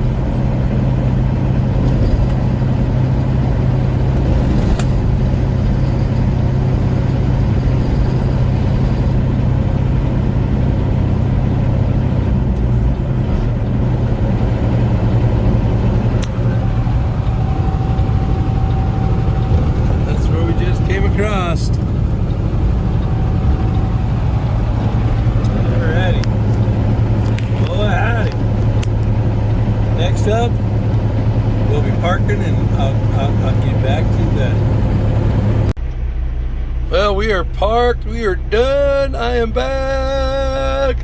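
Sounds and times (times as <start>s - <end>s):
diesel truck engine pulling: 0.0s - 41.0s
road noise: 0.0s - 41.0s.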